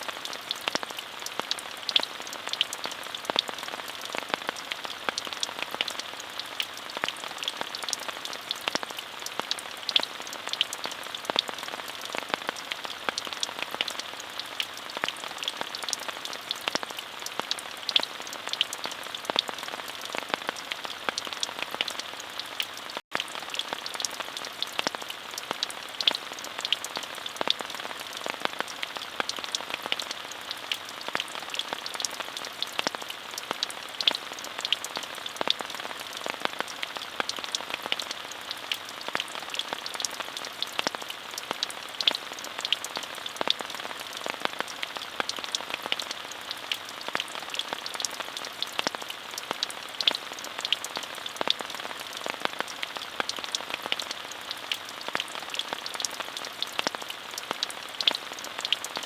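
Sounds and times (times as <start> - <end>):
raindrops ticking: 0.0 - 59.0
steady rain falling: 0.0 - 59.0.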